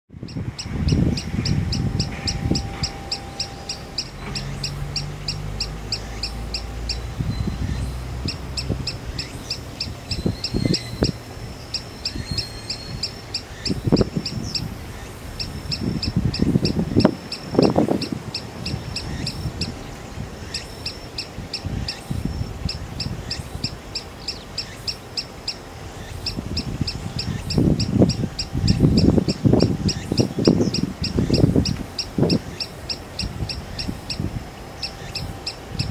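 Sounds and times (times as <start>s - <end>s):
low rumbles: 0.1s - 35.9s
sandpiper calling: 0.2s - 35.9s.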